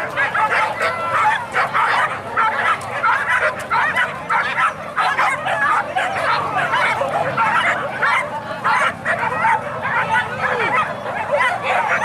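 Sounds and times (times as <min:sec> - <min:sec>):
dogs yelping and baying: 0:00.0 - 0:12.0.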